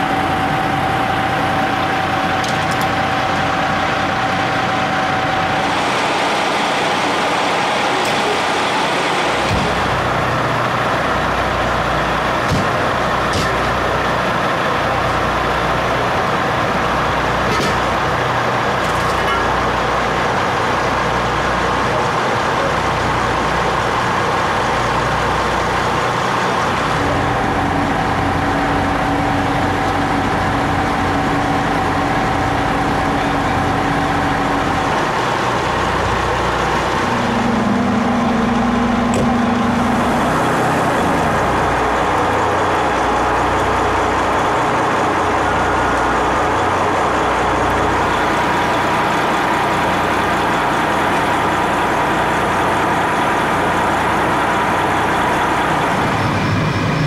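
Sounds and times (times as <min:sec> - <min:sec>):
heavy diesel engines idling: 0:00.0 - 0:57.0.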